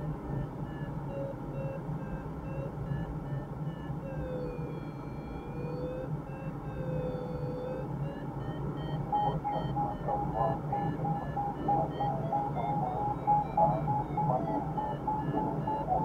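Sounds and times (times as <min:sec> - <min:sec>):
variometer beeps and tones: 0:00.0 - 0:16.0.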